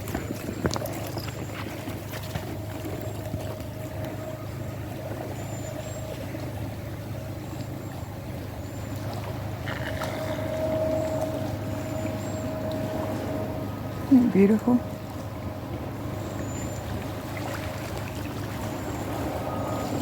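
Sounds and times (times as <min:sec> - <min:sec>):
low engine-like drone: 0:00.0 - 0:20.0.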